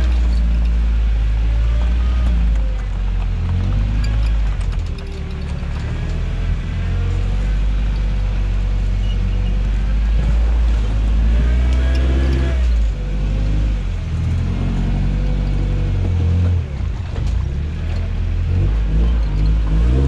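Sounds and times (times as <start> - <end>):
pickup engine rumbling: 0.0 - 20.0.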